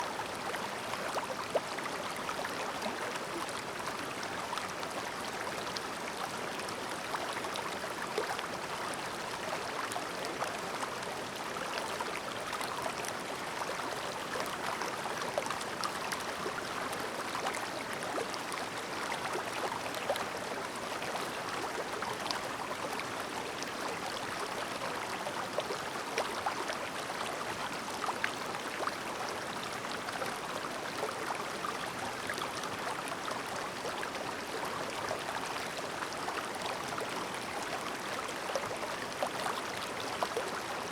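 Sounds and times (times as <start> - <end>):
stream babbling: 0.1 - 40.9.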